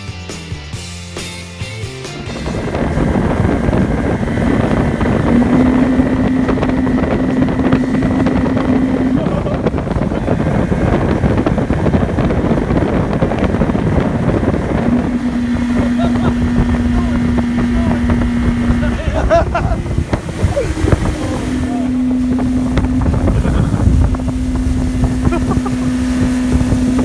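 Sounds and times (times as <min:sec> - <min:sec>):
outboard motor running: 0:00.8 - 0:27.0
wind buffeting microphone: 0:02.2 - 0:27.0.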